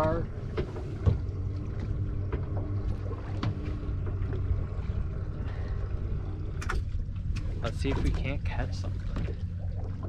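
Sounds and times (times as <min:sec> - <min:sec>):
water around boat: 0:00.0 - 0:10.0.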